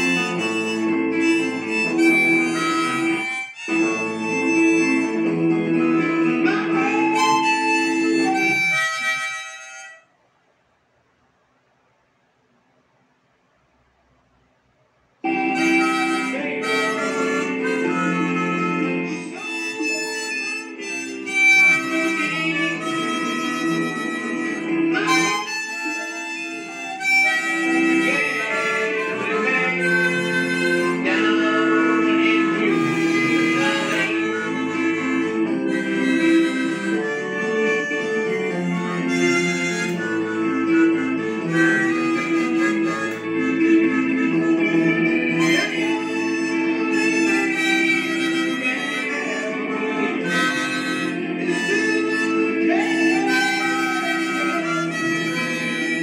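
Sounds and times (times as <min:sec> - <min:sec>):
harmonica playing: 0:00.0 - 0:10.1, 0:15.2 - 0:56.0.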